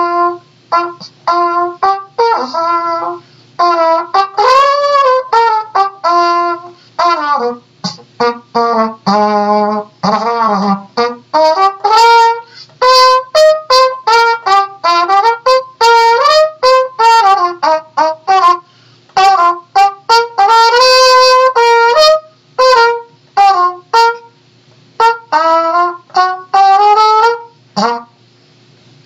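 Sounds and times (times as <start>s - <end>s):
trumpet playing a tune: 0.0s - 28.2s.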